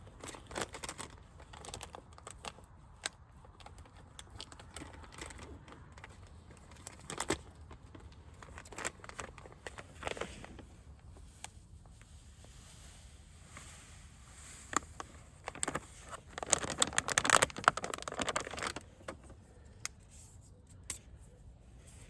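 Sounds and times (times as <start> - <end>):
handling clicks and rustling: 0.0 - 12.3, 14.5 - 22.0
scraping and crackling: 0.1 - 19.4.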